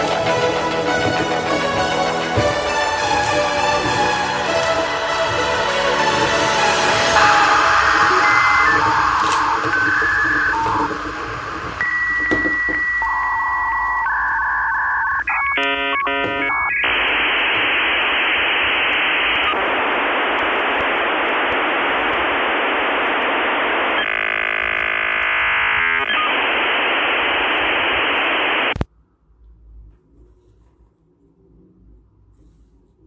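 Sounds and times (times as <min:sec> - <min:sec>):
modem tones: 0:00.0 - 0:28.8
modem hiss: 0:00.0 - 0:28.9.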